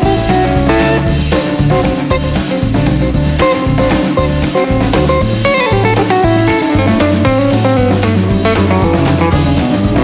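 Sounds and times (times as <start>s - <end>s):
blues-rock guitar instrumental: 0.0s - 10.0s.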